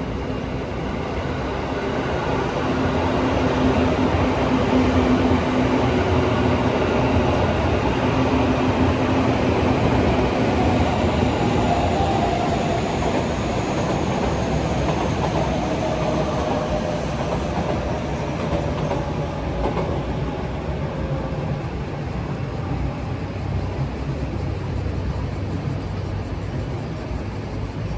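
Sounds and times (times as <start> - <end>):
train rail rumble: 0.0 - 27.9.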